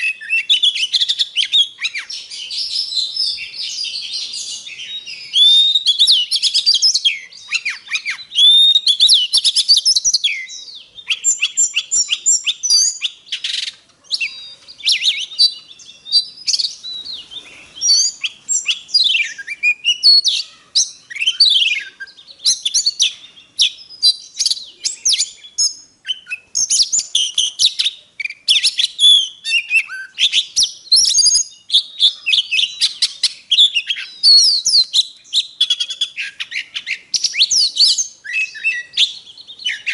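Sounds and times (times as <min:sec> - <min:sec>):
bird singing whistles and chatter: 0:00.0 - 0:39.9.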